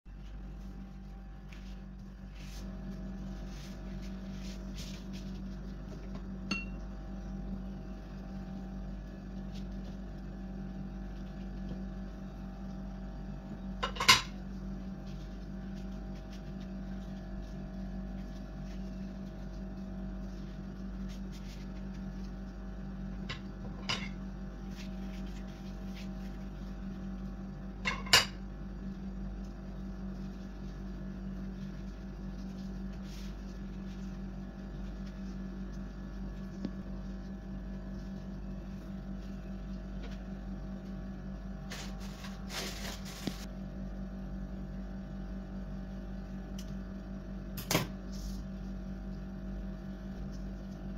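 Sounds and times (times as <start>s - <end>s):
steady low hum: 0.1s - 50.9s.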